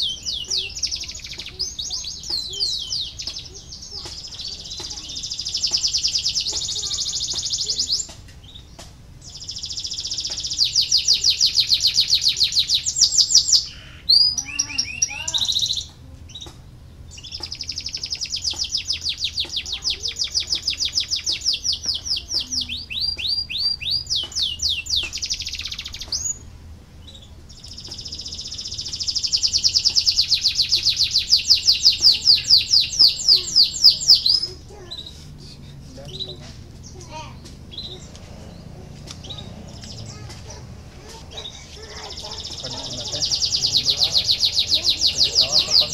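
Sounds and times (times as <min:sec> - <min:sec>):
canary singing rolling trills: 0:00.0 - 0:45.9.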